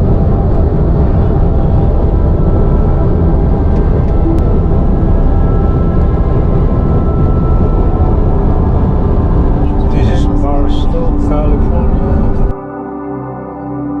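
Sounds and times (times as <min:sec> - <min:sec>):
faint steady hum: 0:00.0 - 0:12.6.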